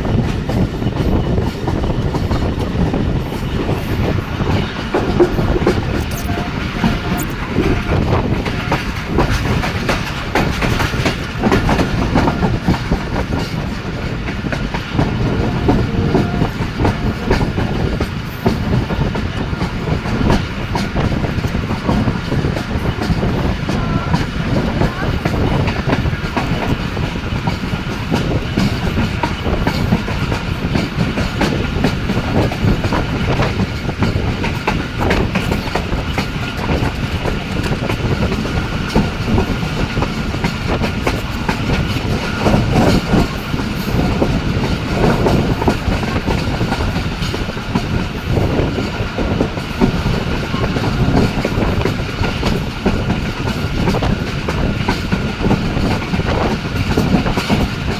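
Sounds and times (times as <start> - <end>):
clickety-clack of rail joints: 0.0 - 57.9
train wheels rumbling on rails: 0.0 - 57.9.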